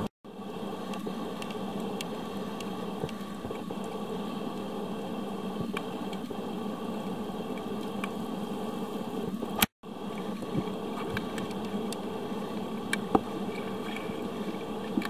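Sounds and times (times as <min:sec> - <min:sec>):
underwater hiss: 0:00.4 - 0:15.0
faint clicks and ticks: 0:00.8 - 0:15.0.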